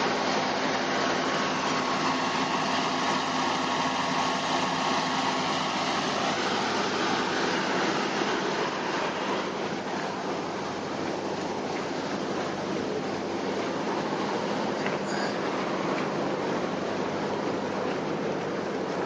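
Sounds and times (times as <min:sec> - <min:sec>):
water pump engine drone: 0:00.0 - 0:19.0.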